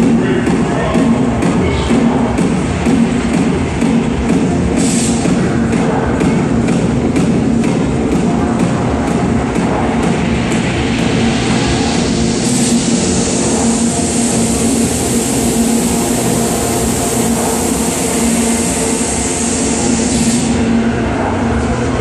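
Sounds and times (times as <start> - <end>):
sharp ticking beat: 0.0 - 20.1
low held drone: 0.0 - 22.0
minimal techno over sound system: 0.0 - 22.0
white-noise sweep: 0.0 - 22.0.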